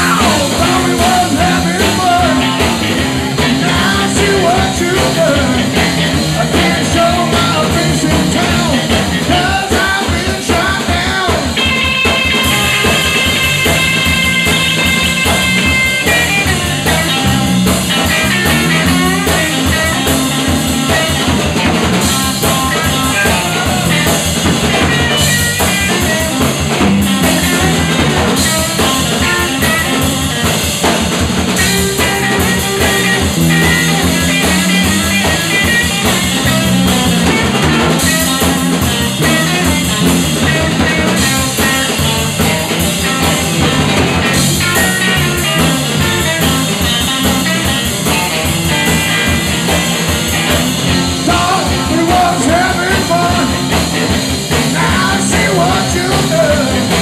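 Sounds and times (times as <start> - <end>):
drum kit beat: 0.0 - 57.0
electric bass: 0.0 - 57.0
electric guitar: 0.0 - 57.0.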